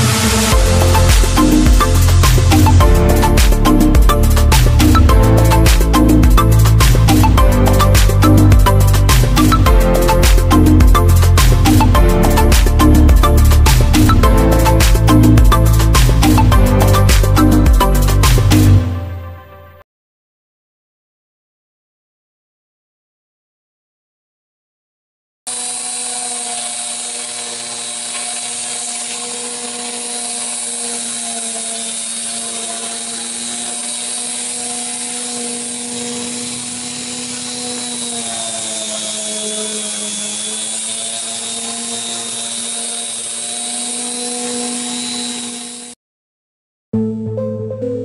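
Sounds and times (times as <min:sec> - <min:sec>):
grinder motor whining: 0:00.0 - 0:19.0, 0:25.5 - 0:46.0.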